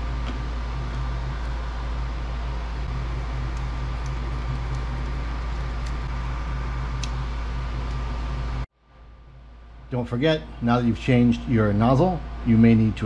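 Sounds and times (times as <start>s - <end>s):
cooling fans whirring: 0.0s - 13.0s
low hum: 0.0s - 13.0s.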